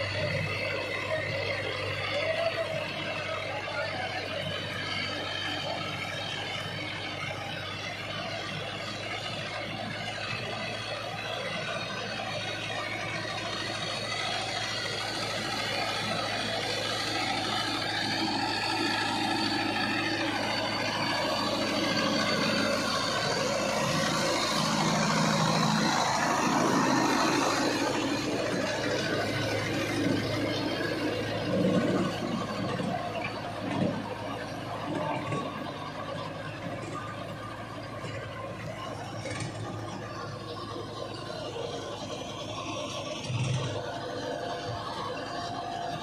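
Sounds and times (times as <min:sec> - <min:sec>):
seeder rotor working soil: 0:00.0 - 0:46.0
tractor diesel engine under load: 0:00.0 - 0:46.0.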